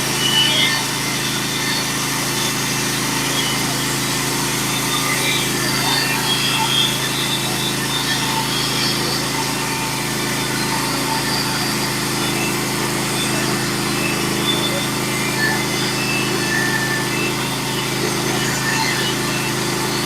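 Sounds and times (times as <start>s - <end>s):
sawmill engine running under load: 0.0s - 20.0s.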